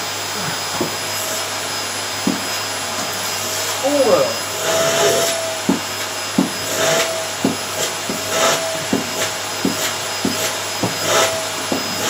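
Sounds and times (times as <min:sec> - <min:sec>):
vacuum cleaner motor whine: 0:00.0 - 0:12.0
vacuum swishing over carpet: 0:00.0 - 0:12.0.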